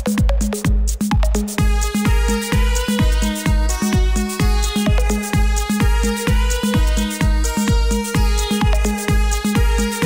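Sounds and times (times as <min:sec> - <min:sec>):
kick-drum beat: 0:00.0 - 0:10.0
synth melody: 0:01.2 - 0:10.0.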